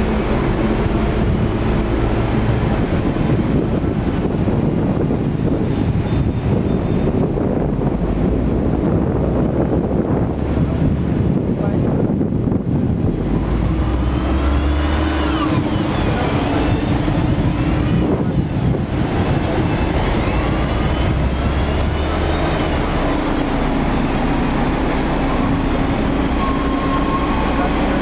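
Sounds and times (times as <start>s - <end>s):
tram rumbling along tracks: 0.0s - 28.0s.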